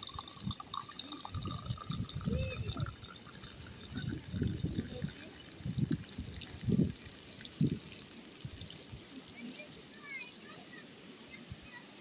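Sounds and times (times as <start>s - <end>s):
tea trickling into a glass mug: 0.0s - 10.7s.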